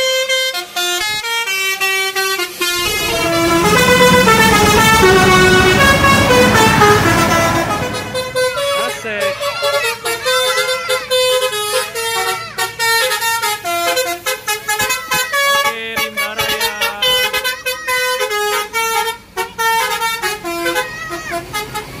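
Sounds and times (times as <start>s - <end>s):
musical air horn melody: 0.0s - 22.0s.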